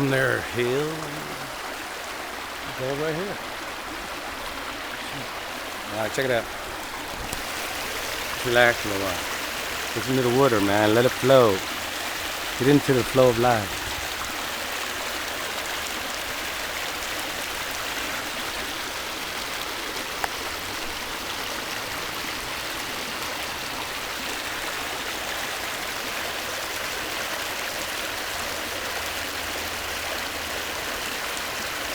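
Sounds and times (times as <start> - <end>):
stream rushing over rocks: 0.0 - 31.9.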